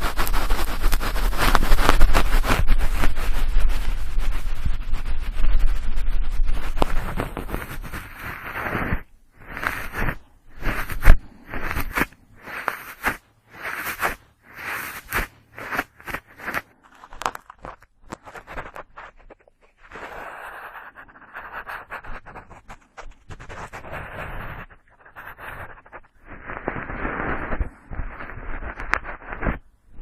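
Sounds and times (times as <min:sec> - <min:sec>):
cotton swab rubbing inside ear: 0:00.0 - 0:30.0.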